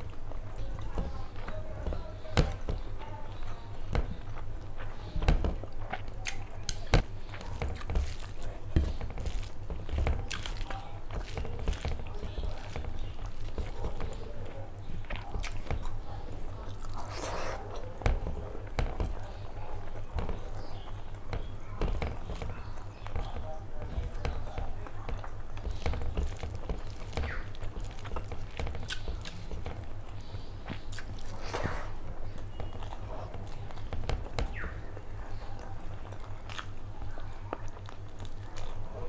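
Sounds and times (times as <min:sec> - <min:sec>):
fingers squishing rice: 0:00.0 - 0:39.0
wet chewing and mouth clicks: 0:00.0 - 0:39.0.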